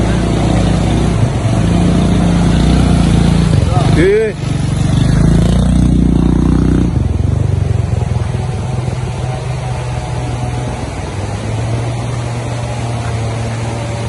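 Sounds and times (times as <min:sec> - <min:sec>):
motorcycle engine passing: 0:00.0 - 0:14.0.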